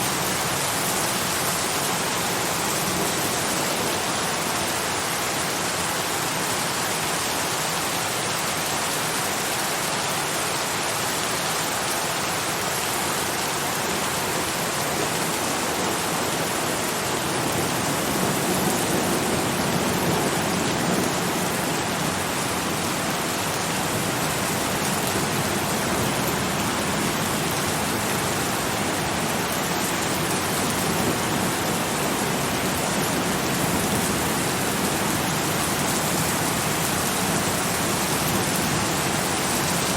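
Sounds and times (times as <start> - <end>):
steady dense rainfall: 0.0 - 39.9.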